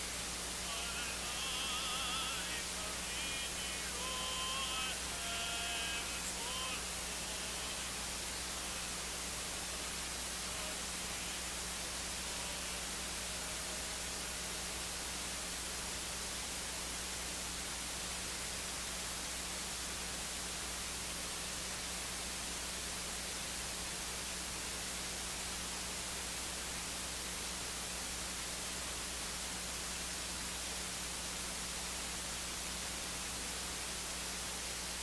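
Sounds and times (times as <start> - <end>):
low electrical hum: 0.0 - 35.0
steady hiss: 0.0 - 35.0.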